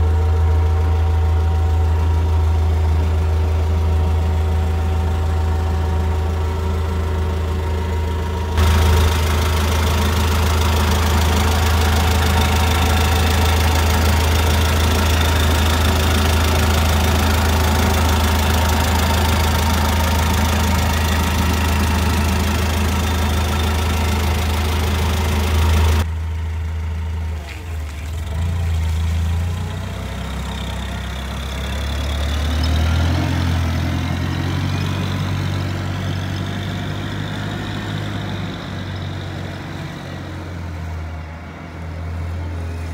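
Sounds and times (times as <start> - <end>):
truck engine idling: 0.0 - 42.9.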